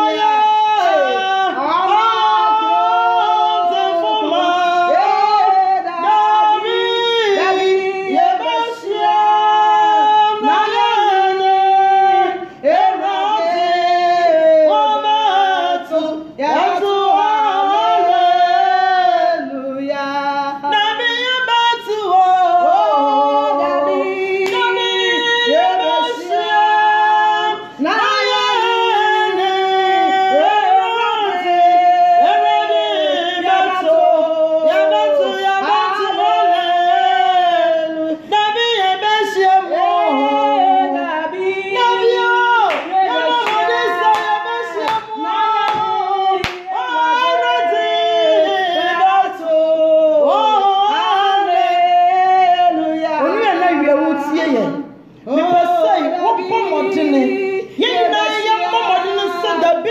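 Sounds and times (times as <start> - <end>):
two women singing: 0.0 - 59.9.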